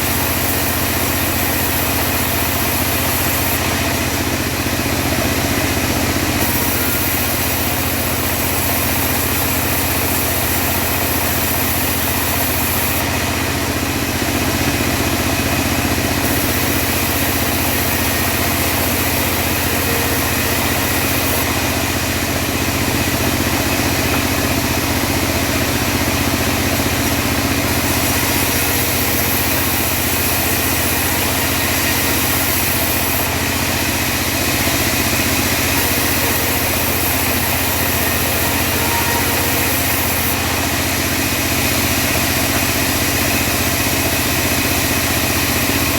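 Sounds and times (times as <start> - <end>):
bandsaw high hiss: 0.0 - 4.4, 6.3 - 45.9
engine drone: 0.0 - 45.9.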